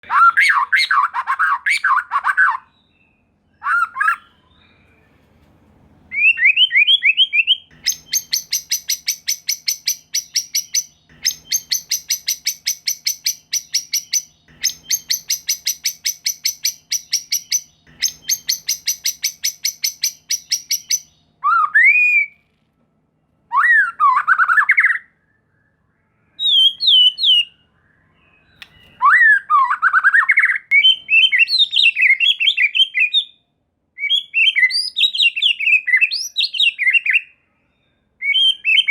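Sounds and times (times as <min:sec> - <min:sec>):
bird whistling song: 0:00.0 - 0:05.2, 0:06.1 - 0:22.4, 0:23.5 - 0:33.4, 0:34.0 - 0:38.9.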